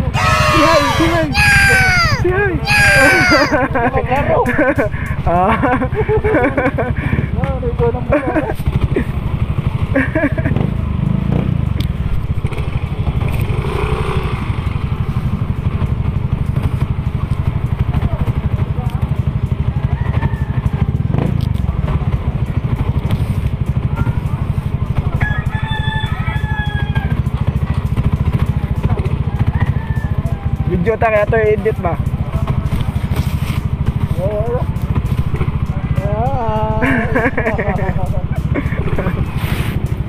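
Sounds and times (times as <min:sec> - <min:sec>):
motorcycle engine running: 0:03.6 - 0:40.0.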